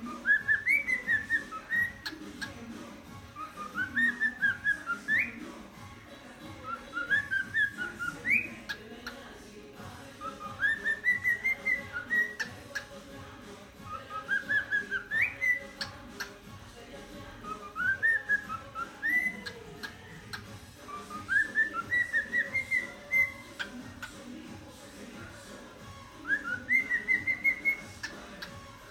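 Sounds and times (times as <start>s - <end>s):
cockatiel whistling a tune: 0.0s - 8.8s, 10.0s - 13.2s, 13.8s - 16.4s, 17.1s - 24.2s, 25.0s - 28.9s.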